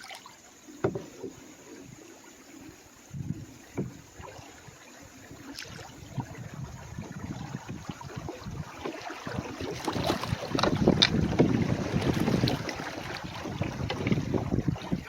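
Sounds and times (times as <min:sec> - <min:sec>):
paddle splashing strokes: 0:00.0 - 0:15.0
rushing water: 0:00.0 - 0:15.0.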